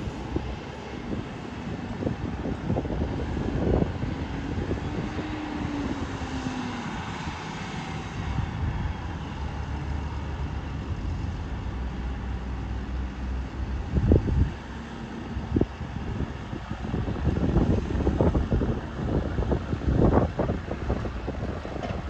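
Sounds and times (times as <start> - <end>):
distant tractor engines running: 0.0 - 22.0
wind gusting on microphone: 0.0 - 22.0.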